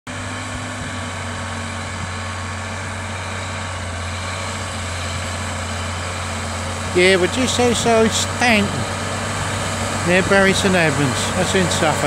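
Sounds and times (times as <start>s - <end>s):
tractor diesel engine running: 0.1s - 12.0s.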